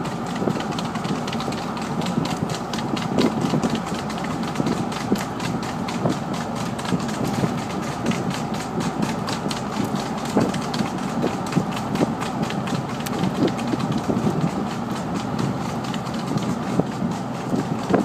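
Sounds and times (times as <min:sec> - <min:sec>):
horse hooves trotting on tarmac: 0:00.0 - 0:18.0
vehicle road and engine noise: 0:00.0 - 0:18.0.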